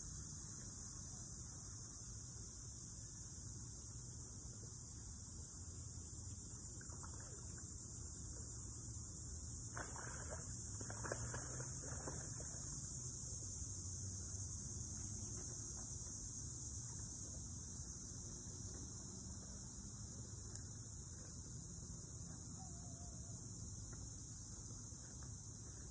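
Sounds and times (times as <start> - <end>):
insect chorus chirring: 0.0 - 25.9.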